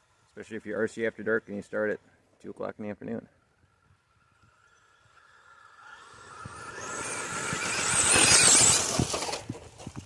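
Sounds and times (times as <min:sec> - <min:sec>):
rc truck at full throttle: 0:00.0 - 0:02.4, 0:03.2 - 0:10.0.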